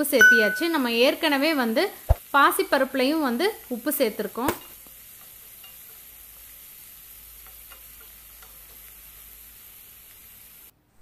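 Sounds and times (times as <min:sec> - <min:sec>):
vegetables sizzling in oil: 0:00.0 - 0:10.7.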